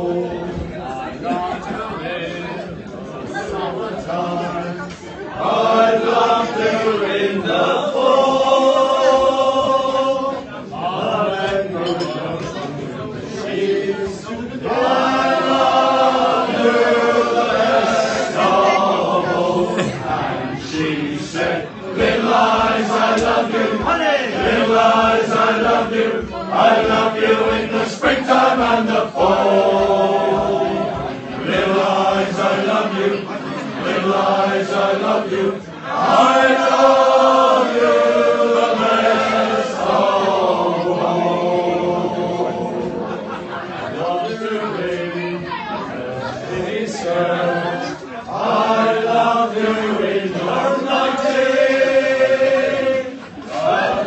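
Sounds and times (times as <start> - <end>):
crowd singing in unison: 0.0 - 54.0.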